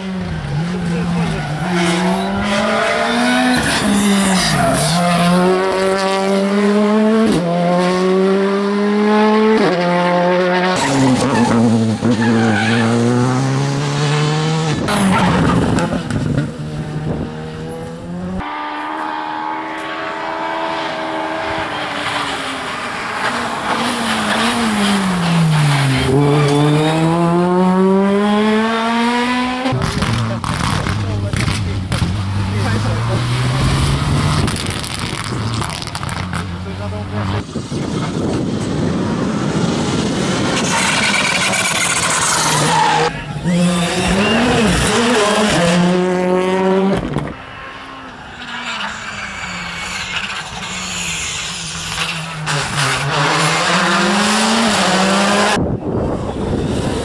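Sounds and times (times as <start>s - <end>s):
rally cars at full throttle: 0.0s - 57.0s.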